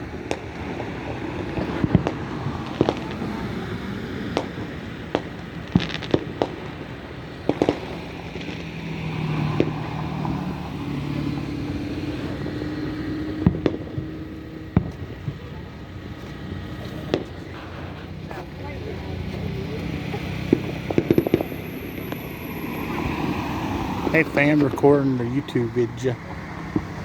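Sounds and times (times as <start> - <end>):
fireworks bangs and pops: 0.0 - 27.0.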